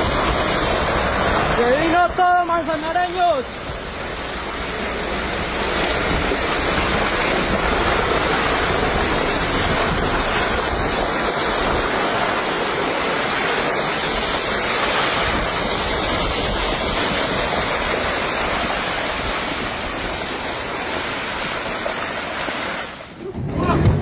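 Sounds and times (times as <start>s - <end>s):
rough water rushing: 0.0s - 24.0s
wind: 0.0s - 24.0s.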